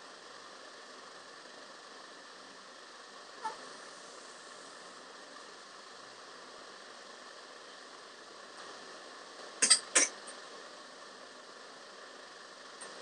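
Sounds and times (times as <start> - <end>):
faint room tone hiss: 0.0 - 13.0.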